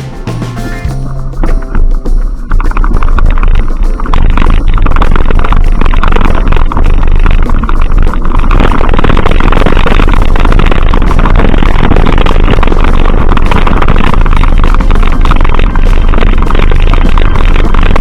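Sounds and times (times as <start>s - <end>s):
distorted vehicle noise: 0.0s - 18.0s
wind on microphone: 0.0s - 18.0s.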